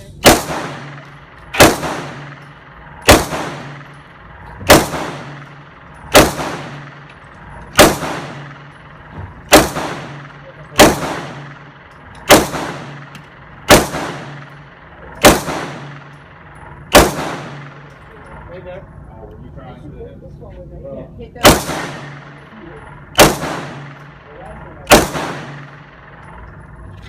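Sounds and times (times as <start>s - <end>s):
gunshots with ringing echo: 0.2s - 19.0s, 21.4s - 26.9s.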